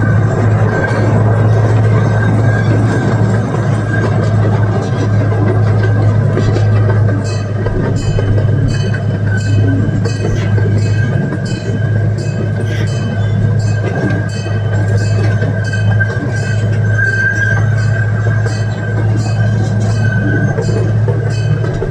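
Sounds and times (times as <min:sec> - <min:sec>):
train engine hum: 0:00.0 - 0:21.9.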